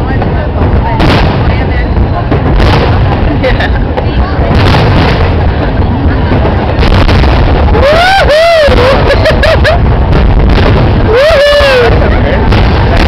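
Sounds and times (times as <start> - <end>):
fireworks booms and bangs: 0.0 - 13.0.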